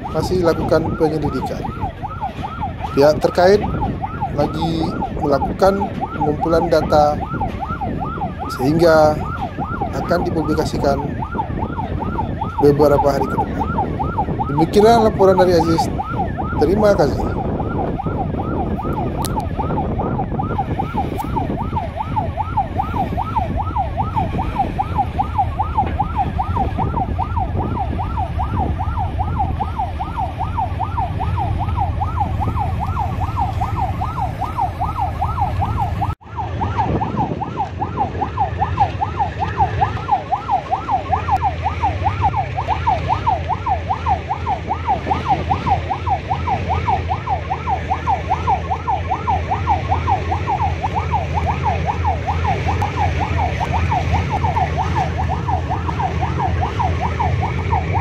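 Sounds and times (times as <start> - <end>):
electronic siren warbling: 0.0 - 58.0.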